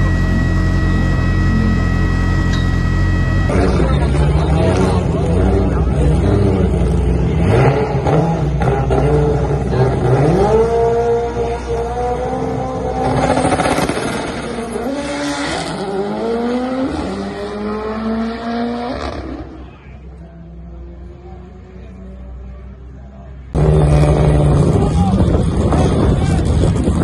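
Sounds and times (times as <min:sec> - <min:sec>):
car engine revving and shifting: 0:00.0 - 0:19.7, 0:23.5 - 0:26.1.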